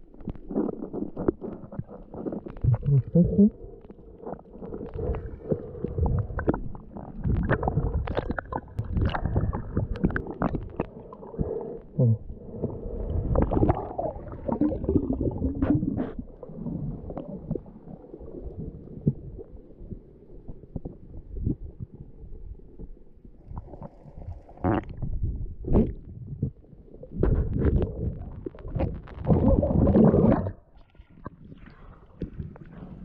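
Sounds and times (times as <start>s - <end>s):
muffled underwater moving water: 0.0s - 33.0s.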